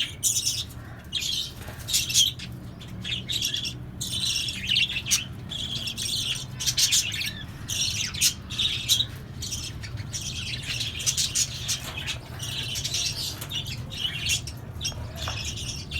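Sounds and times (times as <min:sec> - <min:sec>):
flock of birds chattering: 0:00.0 - 0:15.9.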